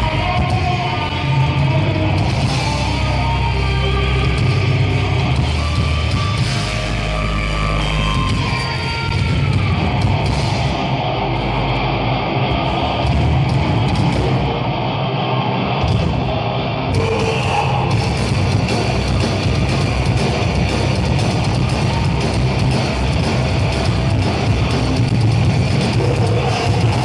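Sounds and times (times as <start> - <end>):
drum kit: 0.0 - 11.1, 12.5 - 14.6, 15.8 - 27.0
distorted electric guitars: 0.0 - 27.0.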